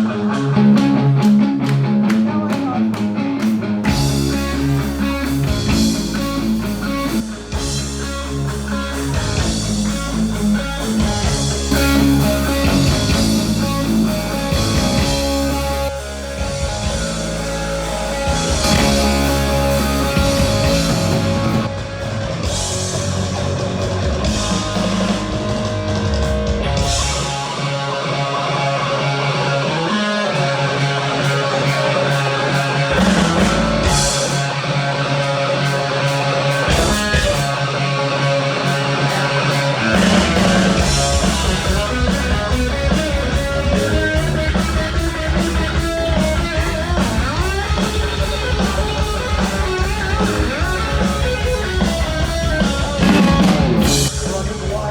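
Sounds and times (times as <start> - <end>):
distorted electric guitar: 0.0 - 54.9
heavy metal band playing live: 0.0 - 54.9
drum kit: 0.3 - 27.9, 30.8 - 54.9.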